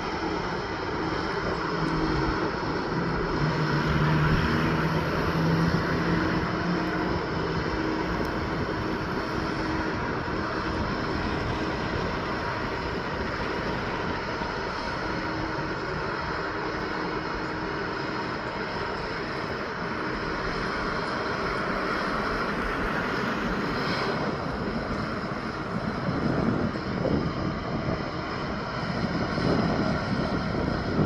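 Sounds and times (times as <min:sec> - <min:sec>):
heavy truck passing: 0:00.0 - 0:31.0.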